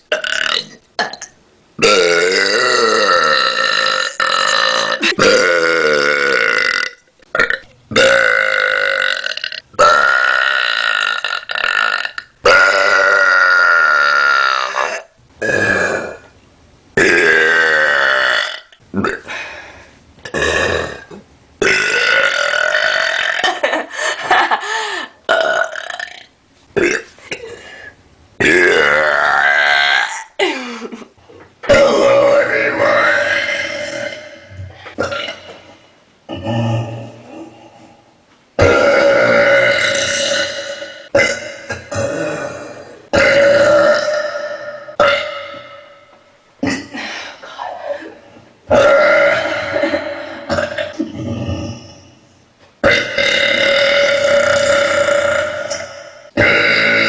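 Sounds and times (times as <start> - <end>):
person belching: 0.1 - 16.3, 17.0 - 19.3, 20.3 - 23.8, 25.3 - 27.6, 28.4 - 30.5, 31.6 - 35.7, 36.3 - 37.8, 38.6 - 47.0, 48.7 - 52.2, 52.8 - 57.0.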